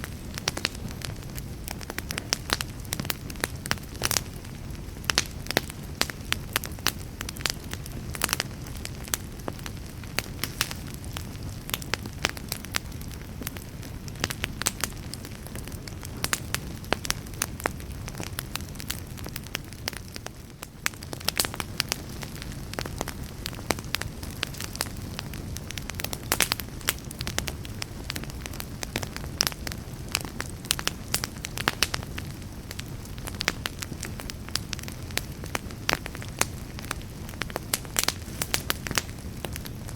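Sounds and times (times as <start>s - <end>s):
fire popping and crackling: 0.0s - 39.9s
fire rumbling: 0.0s - 39.9s.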